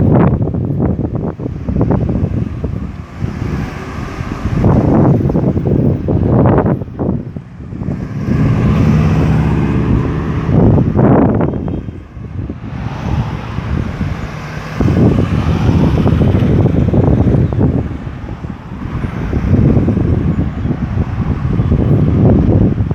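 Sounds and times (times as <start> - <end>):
vehicles passing: 0.0 - 22.9.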